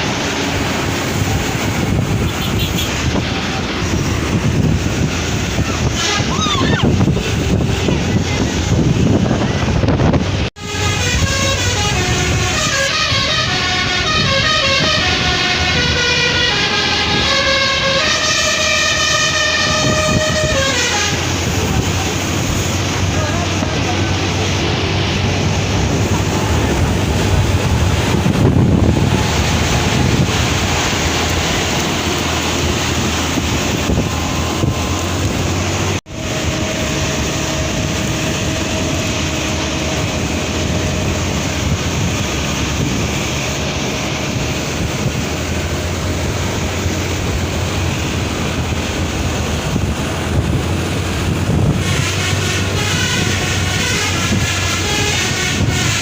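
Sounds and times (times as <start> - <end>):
wind buffeting microphone: 0.0 - 12.6, 19.3 - 56.0
road vehicle rushing noise: 0.0 - 56.0.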